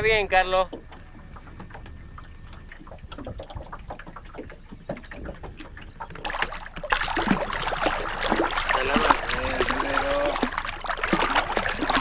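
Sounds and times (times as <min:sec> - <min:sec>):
water lapping against boat hull: 0:00.0 - 0:12.0
fish thrashing and splashing: 0:00.7 - 0:12.0.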